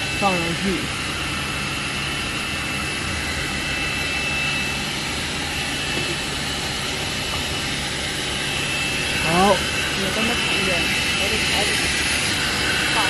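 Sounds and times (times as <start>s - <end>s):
high machine whine: 0.0s - 13.0s
machinery hum: 0.0s - 13.0s.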